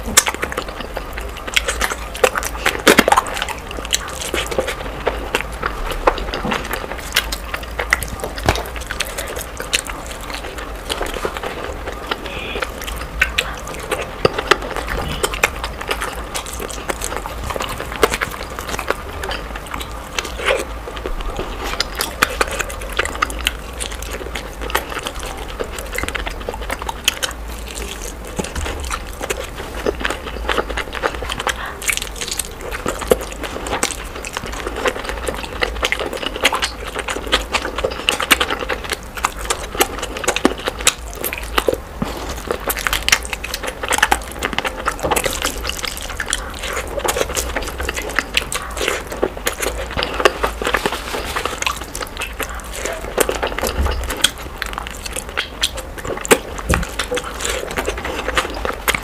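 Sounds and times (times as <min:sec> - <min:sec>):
lip smacks: 0:00.0 - 0:59.0
wet chewing: 0:00.0 - 0:59.0.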